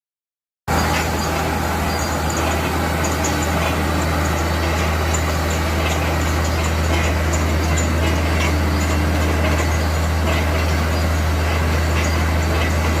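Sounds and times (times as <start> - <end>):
air compressor engine droning: 0.7 - 13.0.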